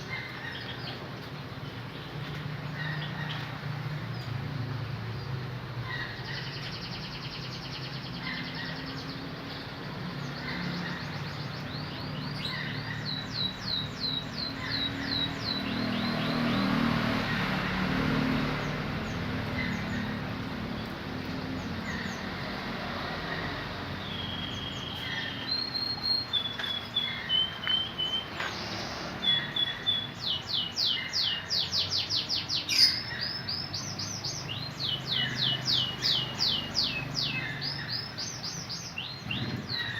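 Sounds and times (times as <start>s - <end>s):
canary singing: 5.8s - 39.9s.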